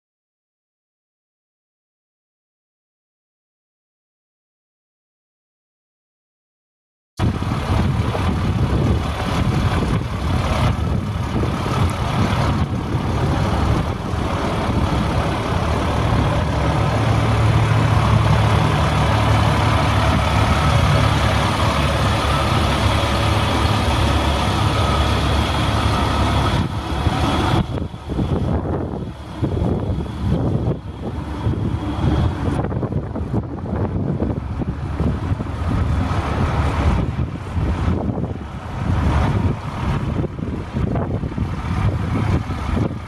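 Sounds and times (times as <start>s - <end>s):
diesel truck engine idling: 7.2s - 43.0s.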